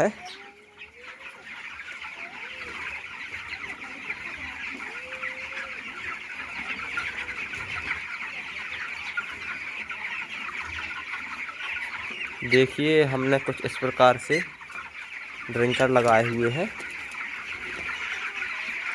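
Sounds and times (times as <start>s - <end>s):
chickens chirping and clucking: 0.0s - 18.9s.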